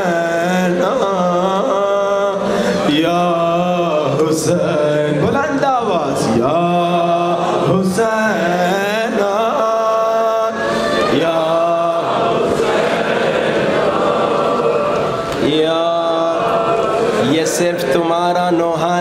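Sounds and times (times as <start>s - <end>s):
man chanting a lament: 0.0s - 12.5s, 15.4s - 19.0s.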